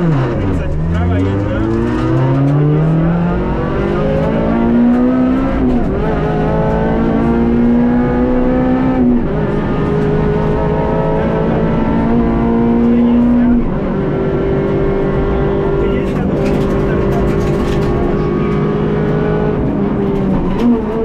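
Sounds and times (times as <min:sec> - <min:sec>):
car engine accelerating: 0:00.0 - 0:21.0
tyre and road noise: 0:00.0 - 0:21.0.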